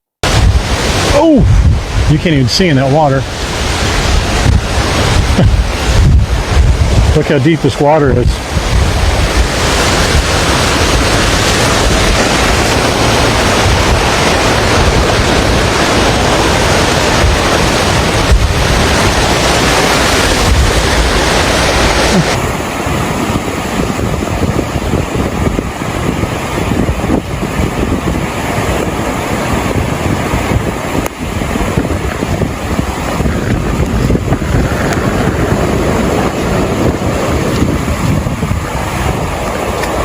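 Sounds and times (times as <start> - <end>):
rushing floodwater: 0.2 - 40.0
wind buffeting microphone: 0.2 - 40.0.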